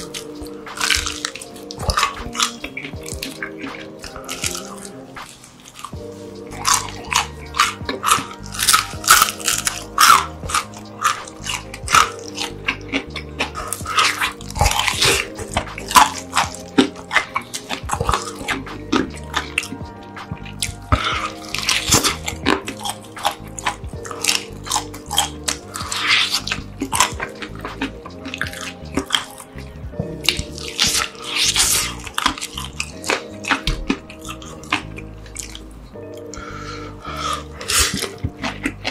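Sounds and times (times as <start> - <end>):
background music: 0.0 - 38.9
person chewing and tearing chicken: 0.0 - 38.9.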